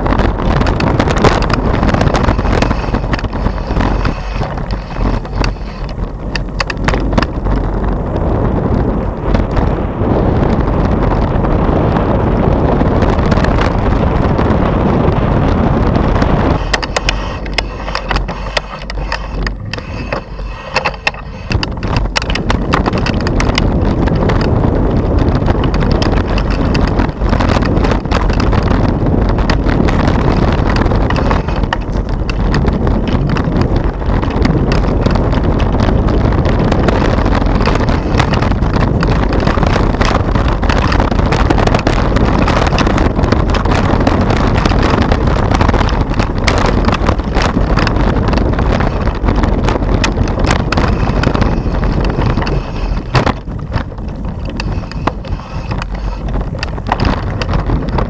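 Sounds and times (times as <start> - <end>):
bike clattering over rough trail: 0.0 - 58.0
wind buffeting microphone: 0.0 - 58.0.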